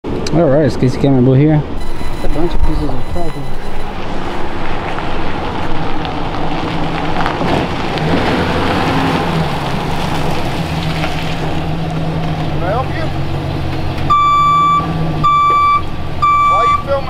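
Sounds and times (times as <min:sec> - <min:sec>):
tyres on dirt road: 0:00.0 - 0:17.0
truck engine running: 0:00.1 - 0:17.0.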